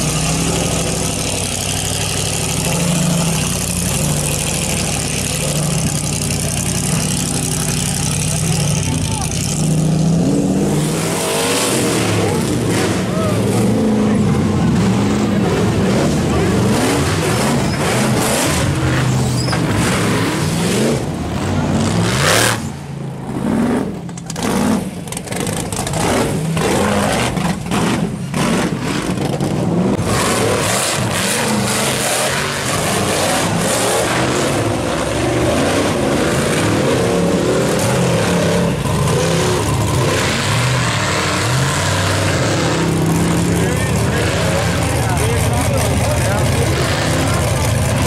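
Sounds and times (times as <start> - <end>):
buggy engine revving hard: 0.0 - 48.0.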